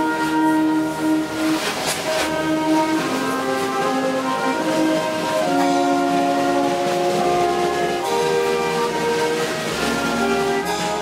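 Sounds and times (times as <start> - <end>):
brass and wind band playing: 0.0 - 11.0.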